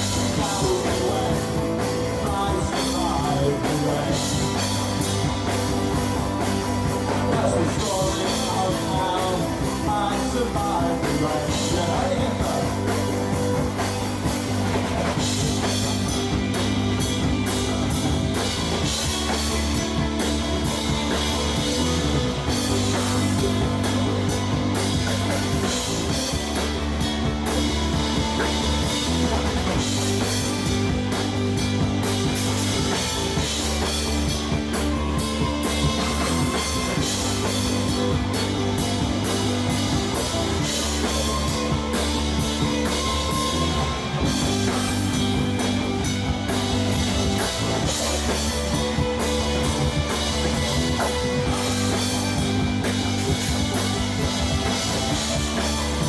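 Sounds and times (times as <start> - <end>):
instrumental rock music: 0.0 - 56.0.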